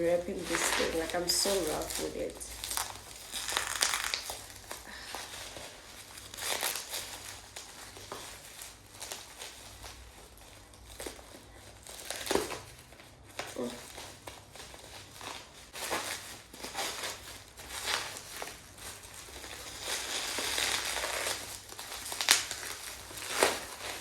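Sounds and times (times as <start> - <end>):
packaging crinkling and tearing: 0.0 - 24.0.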